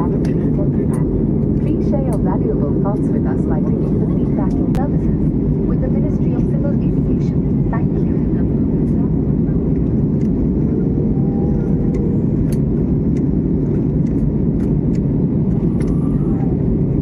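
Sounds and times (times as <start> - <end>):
airliner cabin roar: 0.0 - 17.0.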